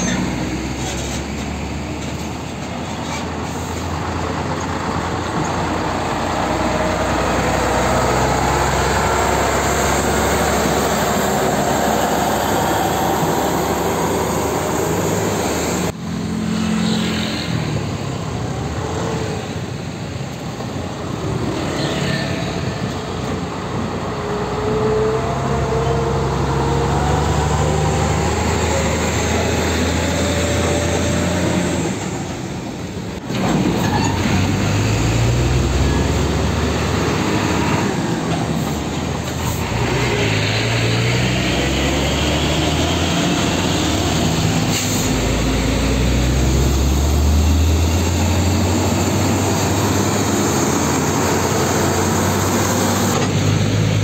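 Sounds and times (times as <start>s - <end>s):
truck diesel engines rumbling: 0.0s - 54.0s.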